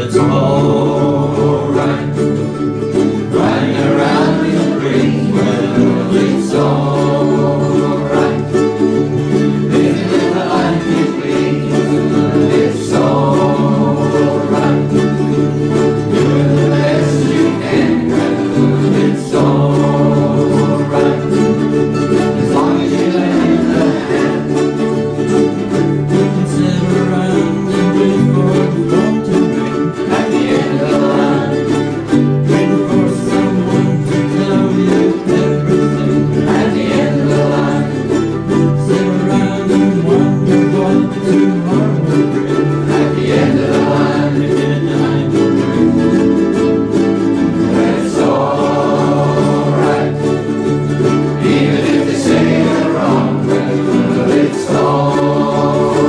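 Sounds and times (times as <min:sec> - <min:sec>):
group of voices singing: 0:00.0 - 0:56.0
ukuleles strummed: 0:00.0 - 0:56.0.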